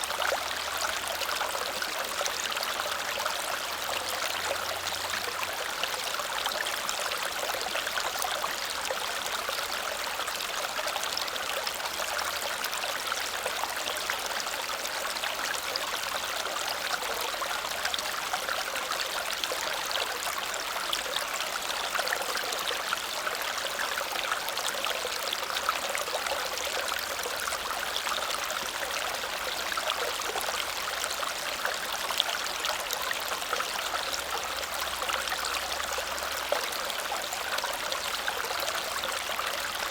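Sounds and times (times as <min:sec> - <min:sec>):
small waterfall splashing over stones: 0:00.0 - 0:39.9.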